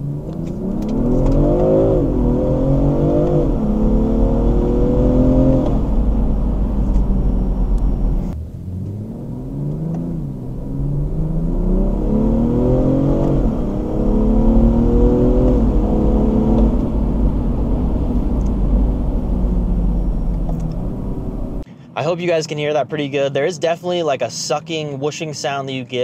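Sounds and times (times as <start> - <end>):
car engine accelerating: 0.0 - 21.6.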